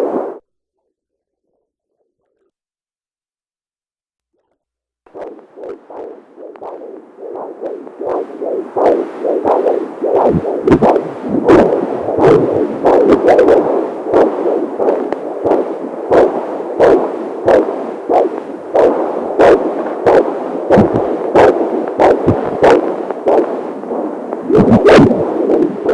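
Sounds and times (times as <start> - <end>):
fetal heartbeat whooshing pulses: 5.1 - 25.9.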